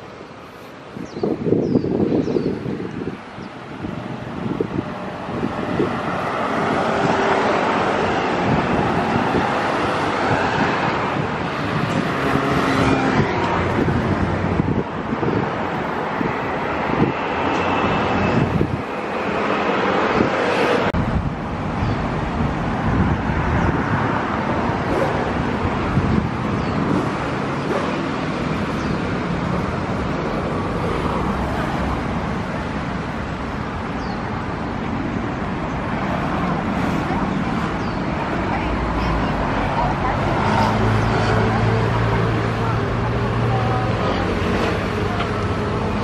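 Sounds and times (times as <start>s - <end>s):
city traffic hum: 0.0s - 46.0s.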